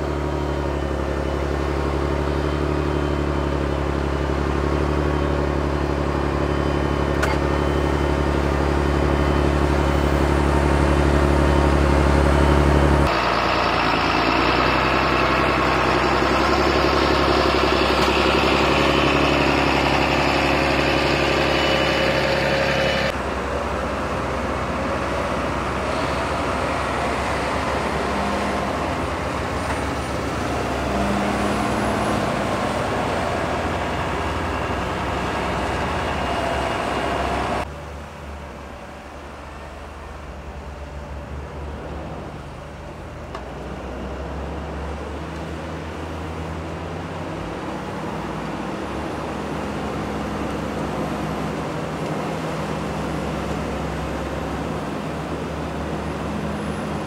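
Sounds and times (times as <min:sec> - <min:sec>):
diesel tractor engines under load: 0:00.0 - 0:57.0.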